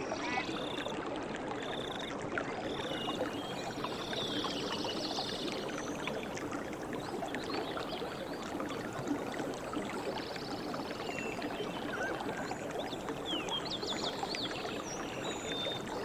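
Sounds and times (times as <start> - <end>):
stream babbling: 0.0 - 16.0.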